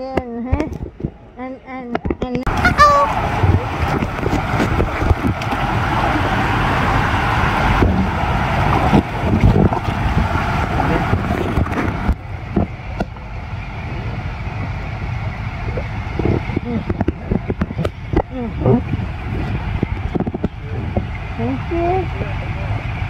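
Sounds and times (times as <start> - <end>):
wind on microphone: 0.0 - 1.4, 2.0 - 23.0
inflatable tube rumbling and knocking: 2.0 - 23.0
water rushing: 2.5 - 23.0.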